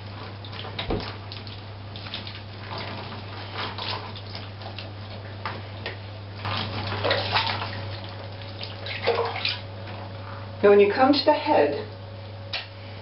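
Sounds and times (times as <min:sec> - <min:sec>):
water splashing in a bathtub: 0:00.0 - 0:12.7.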